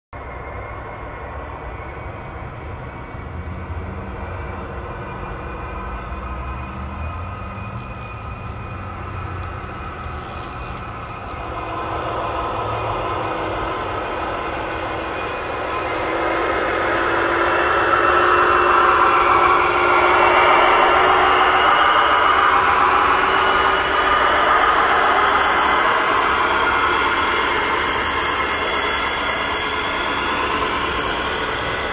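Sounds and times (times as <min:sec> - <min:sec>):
model train running on rails: 0:00.2 - 0:31.9.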